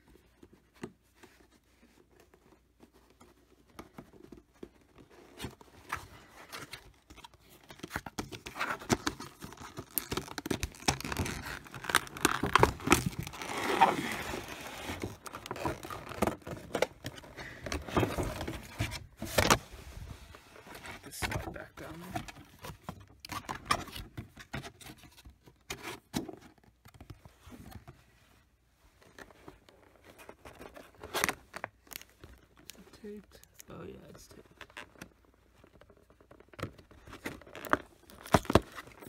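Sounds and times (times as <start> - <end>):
cardboard and plastic packaging rustling: 0.0 - 39.0.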